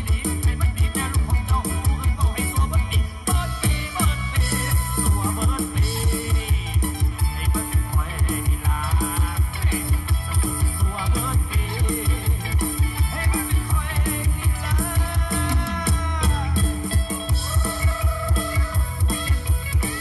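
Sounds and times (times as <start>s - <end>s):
song with heavy bass beat: 0.0s - 20.0s.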